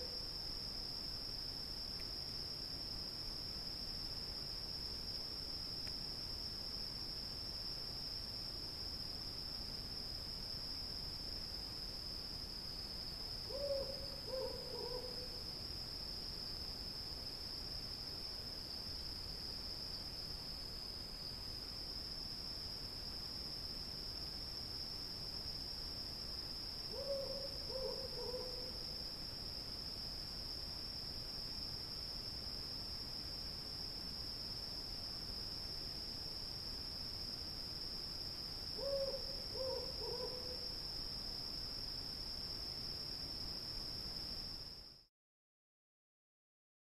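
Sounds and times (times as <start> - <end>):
crickets chirping: 0.0 - 45.1.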